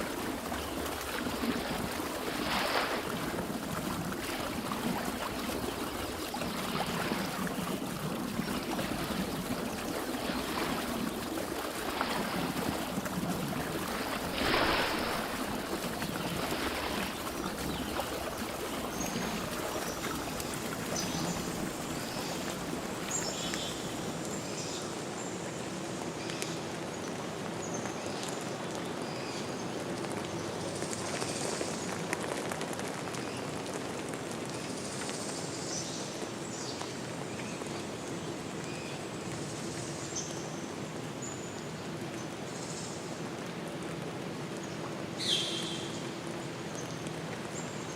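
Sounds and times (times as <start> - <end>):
stream water flowing: 0.0 - 27.6, 36.2 - 47.9.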